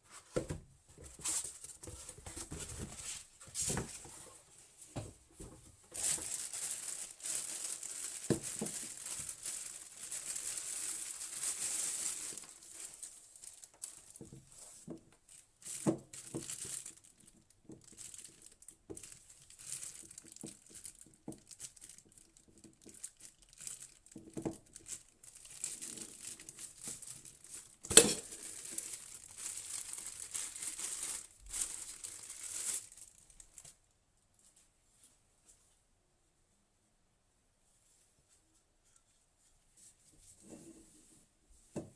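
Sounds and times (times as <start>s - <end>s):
packaging crinkling and rustling: 0.1s - 33.8s.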